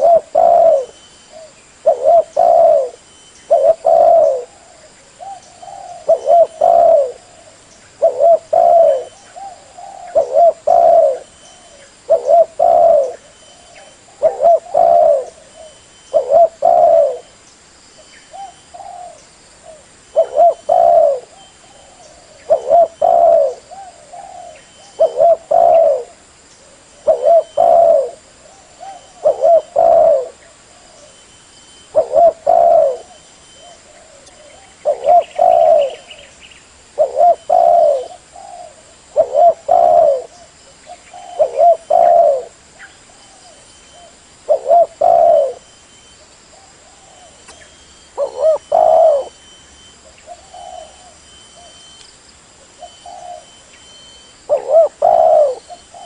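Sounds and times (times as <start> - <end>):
dove cooing: 0.0 - 17.3, 18.3 - 31.2, 31.8 - 36.3, 36.9 - 52.0, 52.7 - 56.0.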